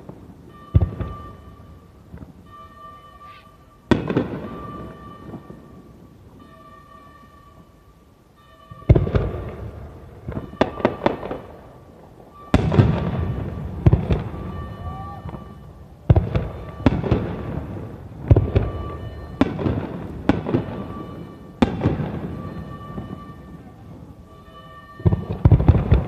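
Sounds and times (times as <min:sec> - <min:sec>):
firework booms echoing: 0:00.0 - 0:02.6, 0:03.9 - 0:06.1, 0:08.7 - 0:26.0.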